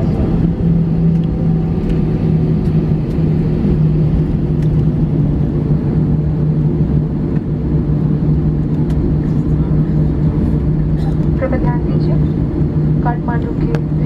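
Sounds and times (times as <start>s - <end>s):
aircraft cabin low rumble: 0.0s - 14.0s.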